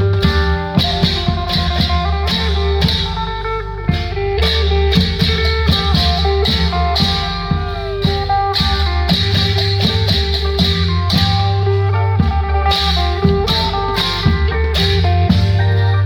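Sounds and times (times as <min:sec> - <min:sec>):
drum beat: 0:00.0 - 0:16.0
heavy bass: 0:00.0 - 0:16.0
plucked guitar melody: 0:00.0 - 0:16.0.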